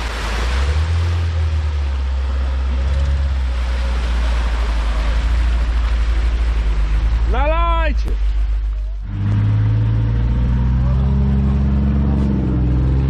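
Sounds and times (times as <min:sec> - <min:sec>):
suv engine under load: 0:00.0 - 0:13.0.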